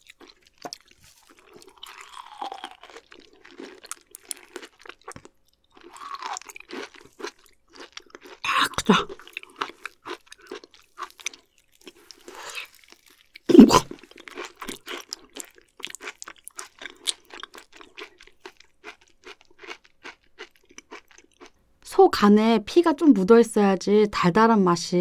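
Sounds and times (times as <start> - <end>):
wet chewing sounds: 0.0 - 21.6.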